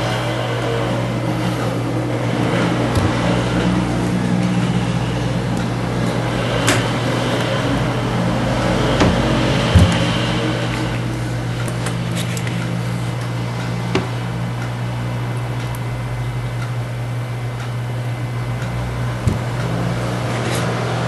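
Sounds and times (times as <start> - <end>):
machine hum with whir: 0.0 - 21.0.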